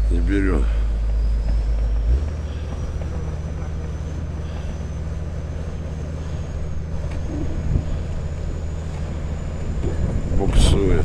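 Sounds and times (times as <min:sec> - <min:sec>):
heavy vehicle engine labouring: 0:00.0 - 0:11.0.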